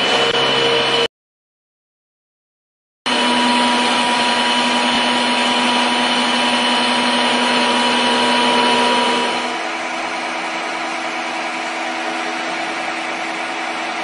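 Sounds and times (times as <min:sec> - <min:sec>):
milling machine cutting metal: 0:00.0 - 0:01.1, 0:03.1 - 0:14.0.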